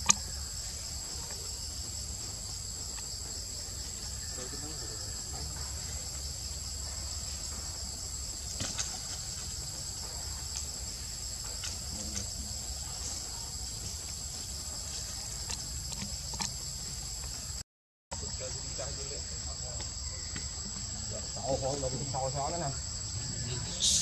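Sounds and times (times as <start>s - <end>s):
insect chorus buzzing: 0.0s - 24.0s.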